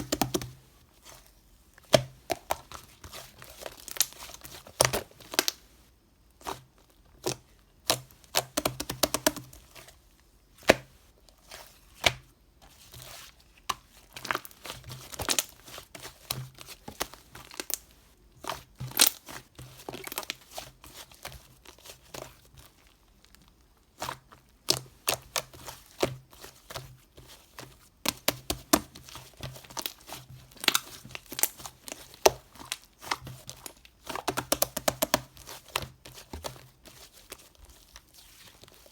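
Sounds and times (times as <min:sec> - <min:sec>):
crinkling and crackling when handled: 0:00.0 - 0:38.9.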